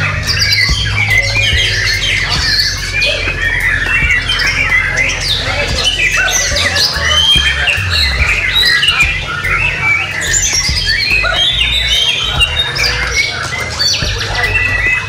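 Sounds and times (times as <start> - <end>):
birds singing and whistling: 0.0 - 15.0.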